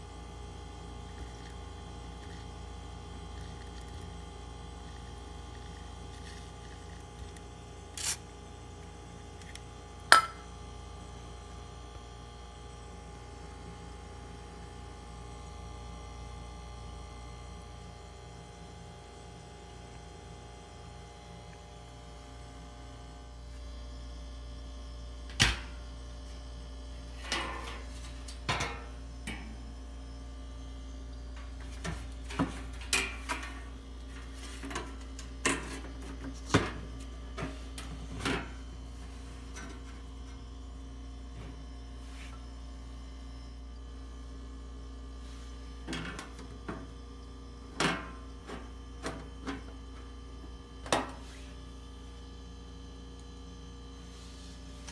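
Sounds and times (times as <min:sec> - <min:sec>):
refrigerator humming: 0:00.0 - 0:54.9.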